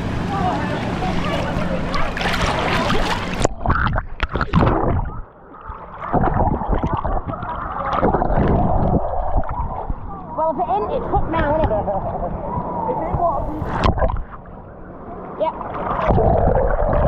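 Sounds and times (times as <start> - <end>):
underwater gurgling and thumping: 0.0 - 14.8, 15.7 - 17.0
water splashing: 0.0 - 17.0.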